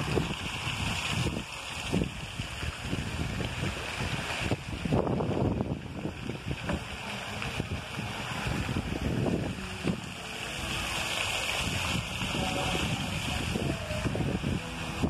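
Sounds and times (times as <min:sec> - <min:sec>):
fountain water splashing: 0:00.0 - 0:15.0
wind buffeting microphone: 0:00.0 - 0:15.0.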